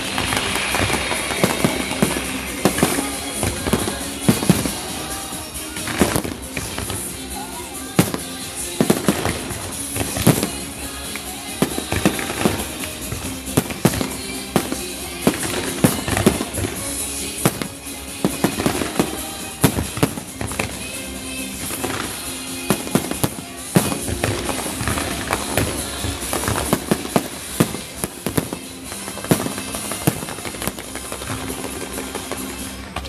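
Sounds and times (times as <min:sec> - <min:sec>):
fireworks bangs and cracks: 0:00.0 - 0:33.0
music: 0:00.0 - 0:33.0.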